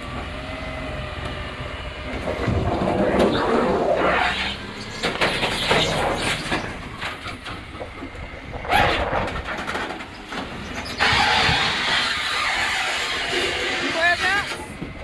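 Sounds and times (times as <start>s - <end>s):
rubbish truck knocks and clatter: 2.0s - 15.0s.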